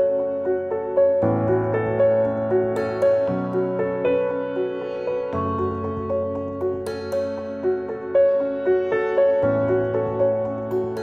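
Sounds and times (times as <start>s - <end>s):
soft somber piano music: 0.0s - 11.0s.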